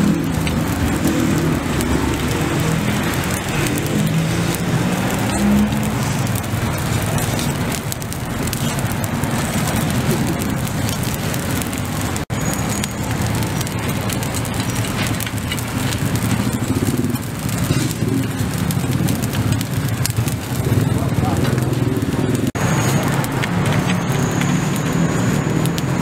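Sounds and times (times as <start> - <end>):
charcoal grill crackling: 0.0 - 26.0
traffic hum: 0.0 - 26.0.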